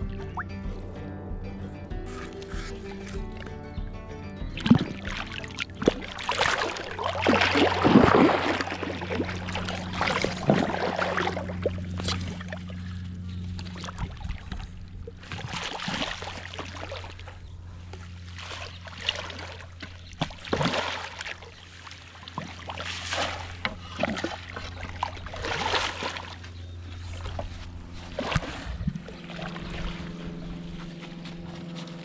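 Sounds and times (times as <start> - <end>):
steady low hum: 0.0 - 32.0
fish thrashing and splashing: 4.5 - 32.0.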